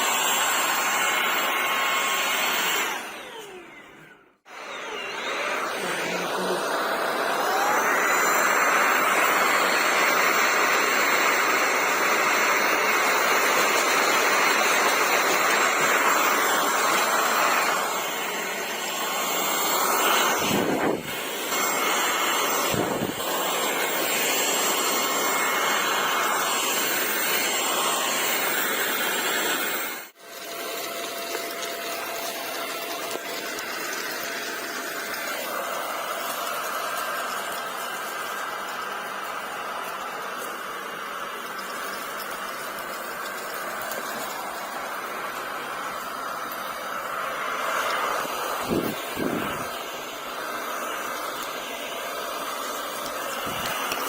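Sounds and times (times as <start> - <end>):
stick vacuum cleaner running: 0.0 - 54.0.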